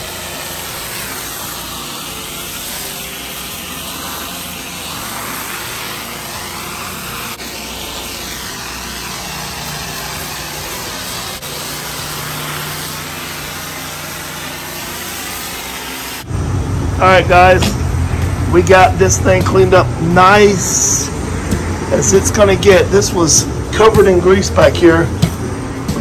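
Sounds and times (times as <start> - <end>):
high-pressure water spraying on concrete: 0.0 - 16.4, 17.1 - 26.0
pressure washer engine: 0.0 - 26.0.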